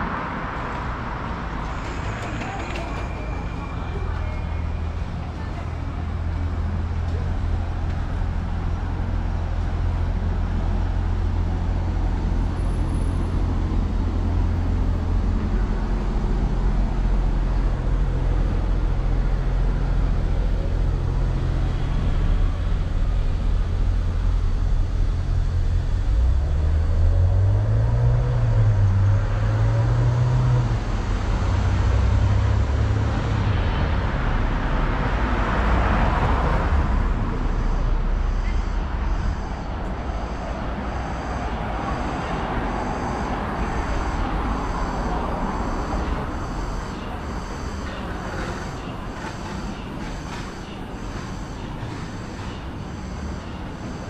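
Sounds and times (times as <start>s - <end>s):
street traffic rumble: 0.0s - 54.0s.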